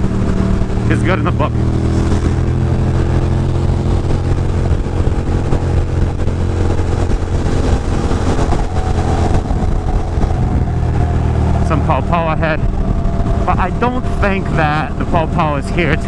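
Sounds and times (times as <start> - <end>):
motorcycle engine cruising: 0.0 - 16.0
wind over microphone: 0.0 - 16.0.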